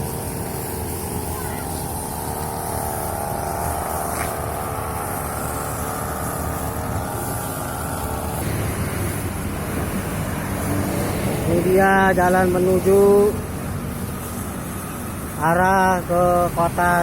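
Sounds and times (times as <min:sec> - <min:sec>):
brush cutter engine cutting grass: 0:00.0 - 0:17.0.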